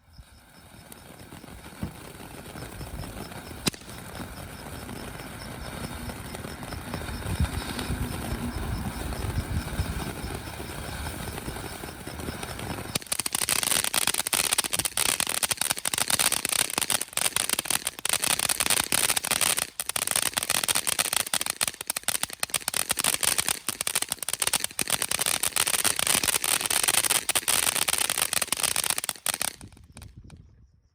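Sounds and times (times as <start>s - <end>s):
firework fountain hissing: 0.0s - 30.1s
dense crackle of rapid pops: 0.2s - 30.3s.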